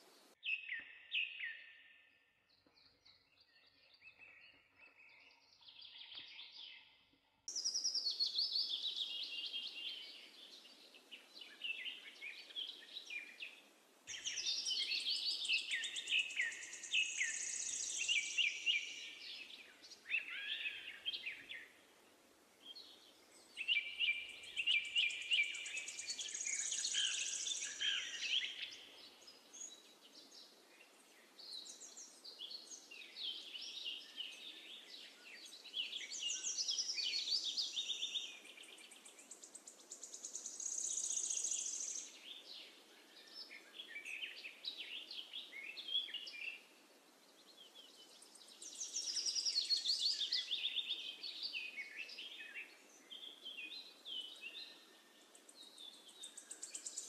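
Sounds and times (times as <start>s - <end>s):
faint steady hiss: 0.0s - 0.4s, 7.5s - 57.0s
birds chirping and singing: 2.5s - 21.8s, 22.6s - 46.7s, 47.4s - 57.0s.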